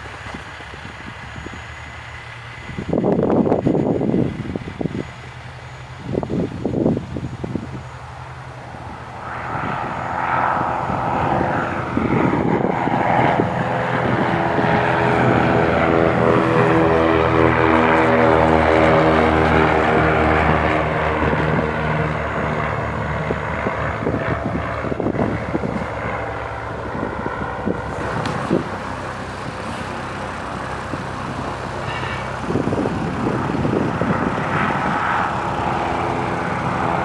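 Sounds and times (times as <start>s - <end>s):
propeller plane droning: 0.0s - 37.0s.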